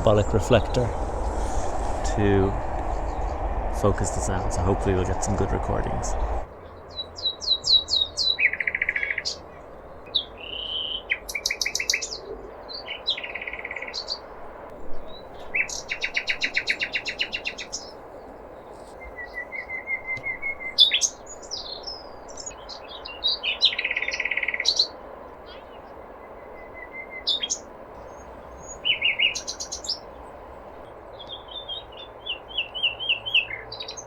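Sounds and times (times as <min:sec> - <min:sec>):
nightingale singing: 0:06.2 - 0:34.0.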